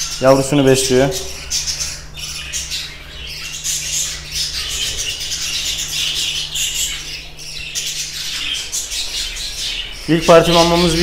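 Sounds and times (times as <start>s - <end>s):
budgerigars chattering and squawking: 0.0s - 11.0s.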